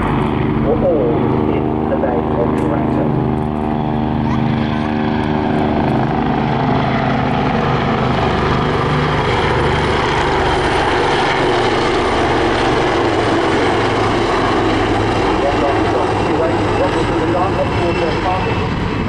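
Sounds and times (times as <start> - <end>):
aircraft engine and rotor hum: 0.0 - 19.0.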